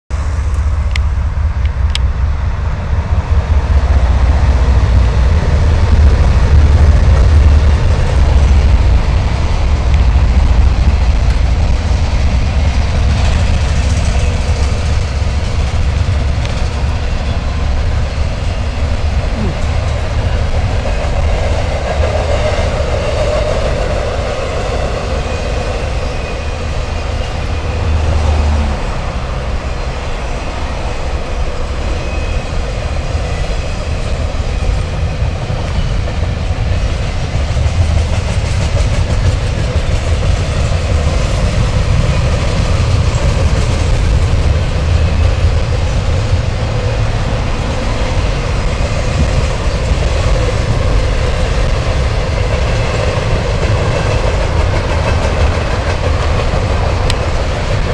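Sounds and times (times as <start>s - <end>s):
freight train rolling over bridge: 0.1s - 57.9s.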